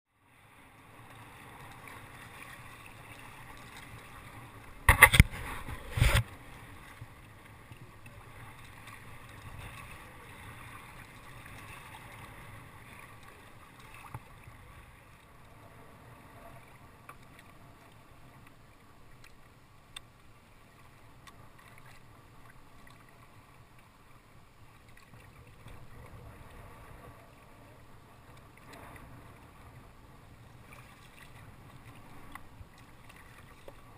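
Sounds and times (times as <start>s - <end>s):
wind: 0.1s - 33.9s
sea water washing: 0.2s - 33.9s.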